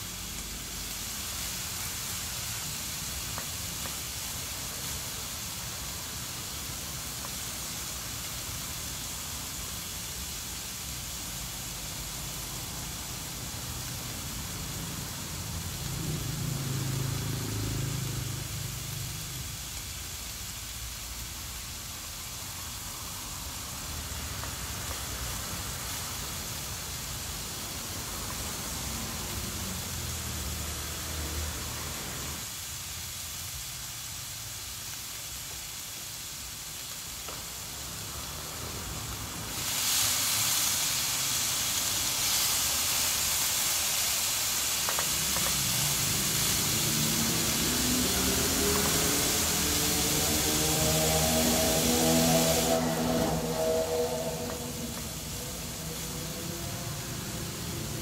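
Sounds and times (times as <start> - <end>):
grill pan sizzling: 0.0 - 58.0.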